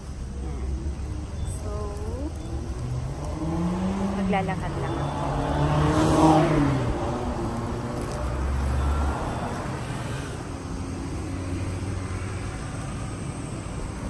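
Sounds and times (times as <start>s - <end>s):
street traffic hum: 0.0s - 14.0s
car driving past: 2.3s - 14.0s.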